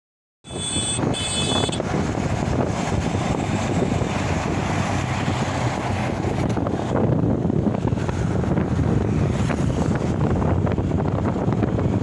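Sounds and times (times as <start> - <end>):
wind buffeting microphone: 0.5 - 12.0.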